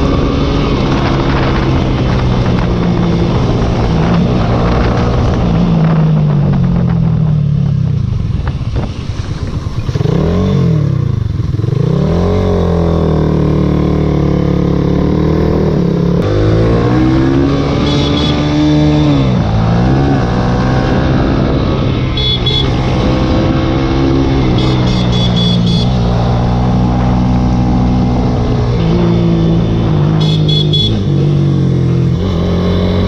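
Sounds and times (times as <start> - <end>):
motorcycle engine running hard: 0.0 - 33.0.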